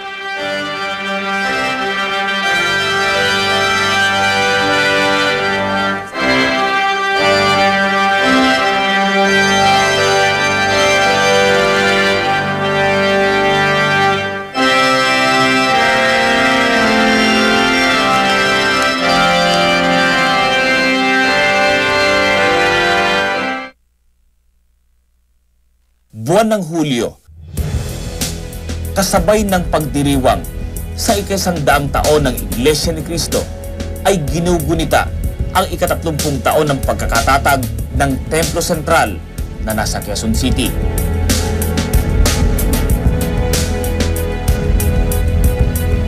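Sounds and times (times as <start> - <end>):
organ playing held chords: 0.0 - 23.8, 27.6 - 46.0.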